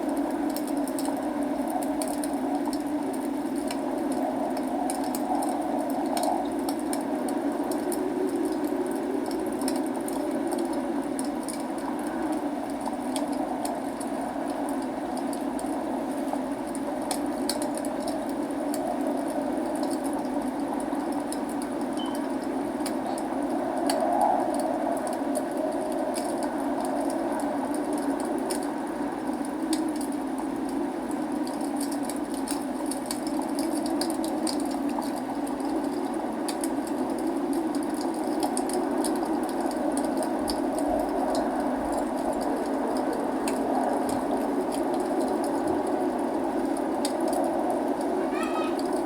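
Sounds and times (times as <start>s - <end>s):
log fire crackling: 0.0s - 49.0s
rain: 0.0s - 49.0s.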